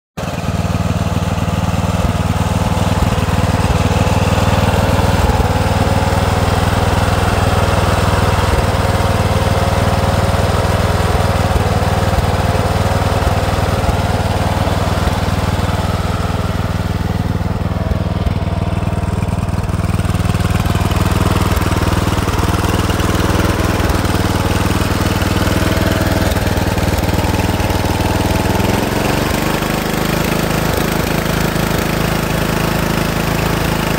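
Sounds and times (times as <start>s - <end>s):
lawn mower engine running: 0.2s - 33.9s.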